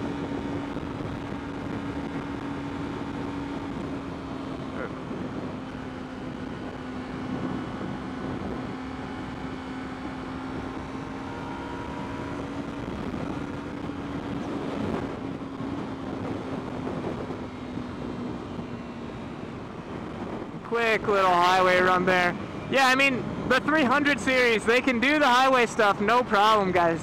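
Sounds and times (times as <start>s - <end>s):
heavy wind noise: 0.0s - 27.0s
motorcycle engine steady drone: 0.0s - 27.0s
road noise: 0.0s - 27.0s.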